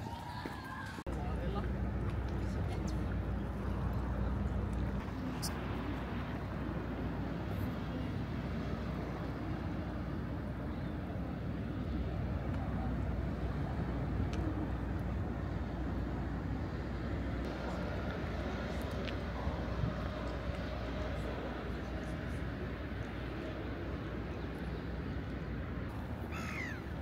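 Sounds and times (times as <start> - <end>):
faint chatter of passers-by: 0.0 - 27.0
street traffic: 0.0 - 27.0.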